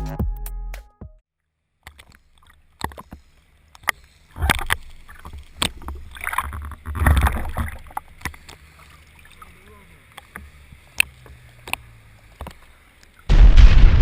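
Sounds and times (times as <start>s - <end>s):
water splashing: 1.8s - 14.0s.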